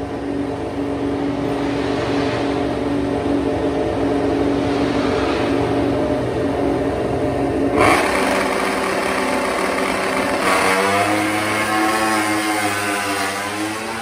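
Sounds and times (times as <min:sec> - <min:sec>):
motorcycle engine at steady revs: 0:00.0 - 0:14.0.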